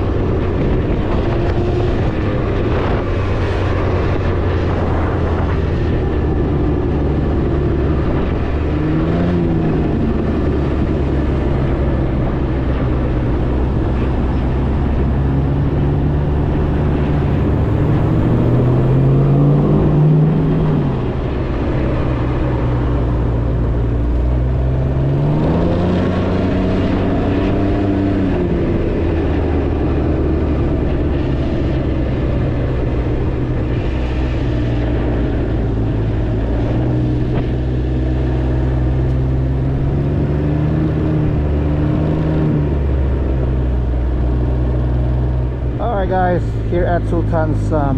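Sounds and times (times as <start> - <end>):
wind rush: 0.0 - 47.9.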